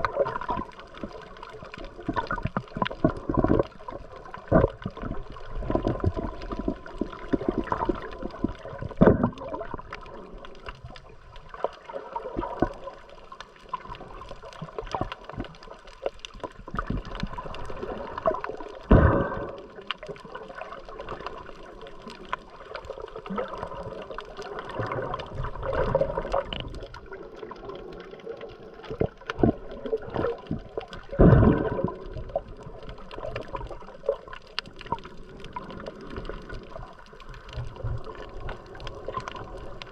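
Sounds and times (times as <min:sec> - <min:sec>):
water gurgling and sloshing: 0:00.0 - 0:39.9
water splashes: 0:00.0 - 0:39.9.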